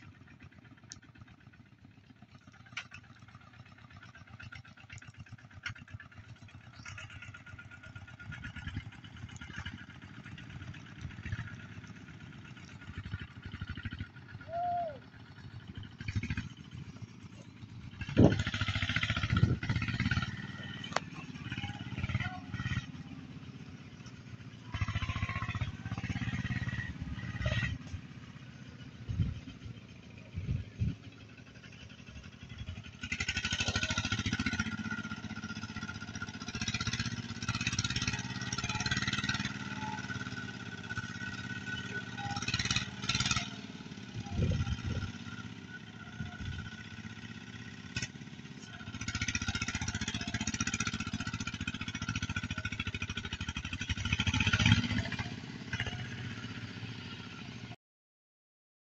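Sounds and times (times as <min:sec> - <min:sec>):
engine running at low revs: 0:00.0 - 0:57.8.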